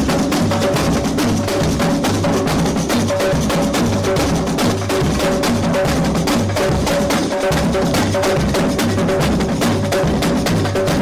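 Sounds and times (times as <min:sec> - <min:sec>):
percussion troupe drumming: 0:00.0 - 0:11.0.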